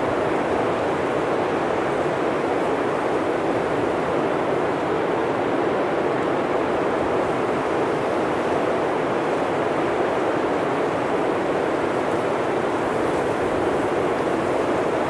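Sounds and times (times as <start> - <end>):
wind rushing through trees: 0.0 - 15.0.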